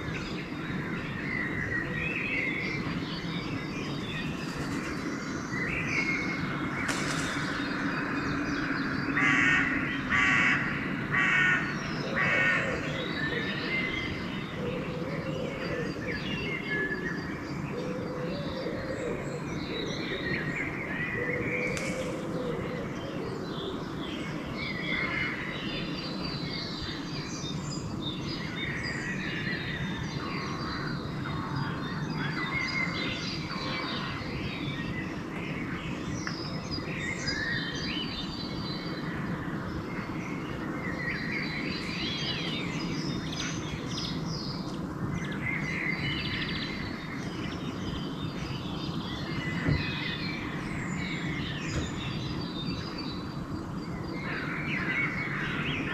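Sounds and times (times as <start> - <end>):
songbirds chirping and singing: 0.0 - 55.9.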